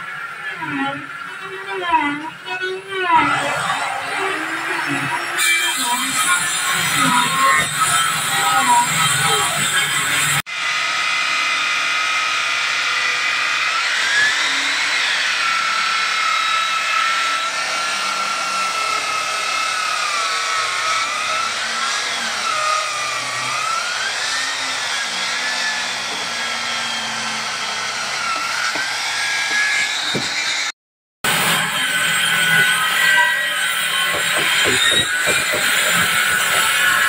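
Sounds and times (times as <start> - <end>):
circular saw cutting wood: 0.0 - 37.0.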